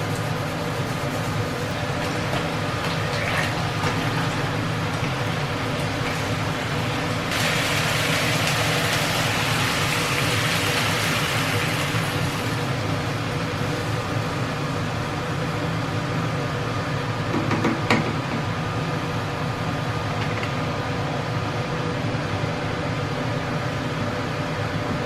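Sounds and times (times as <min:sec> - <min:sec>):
mechanical hum with hiss: 0:00.0 - 0:25.0.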